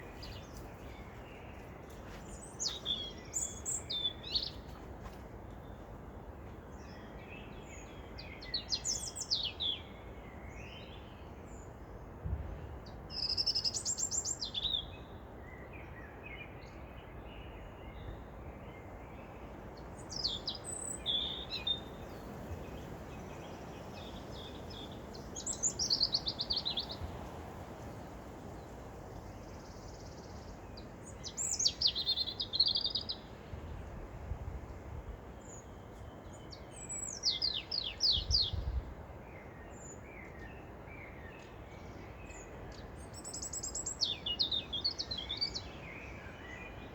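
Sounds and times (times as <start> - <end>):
low background hiss: 0.0 - 46.9
songbirds singing trills: 0.0 - 46.9.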